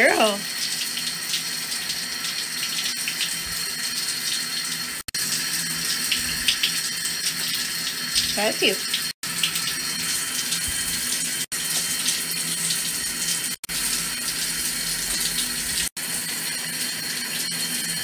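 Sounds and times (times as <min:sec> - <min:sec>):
shower water running: 0:00.0 - 0:18.0.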